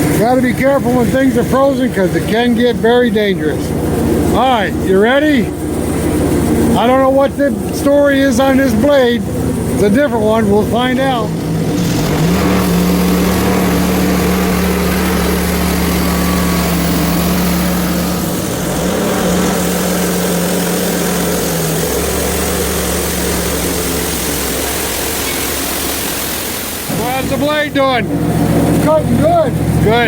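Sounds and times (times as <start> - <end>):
sawmill gas engine running: 0.0 - 30.0.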